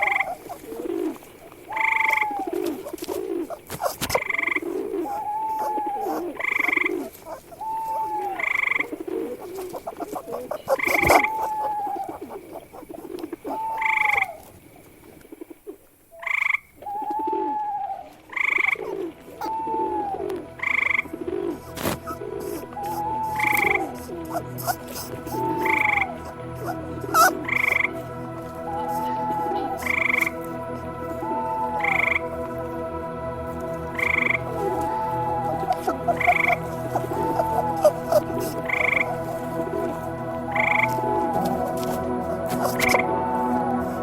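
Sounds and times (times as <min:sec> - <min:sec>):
frogs croaking: 0:00.0 - 0:44.0.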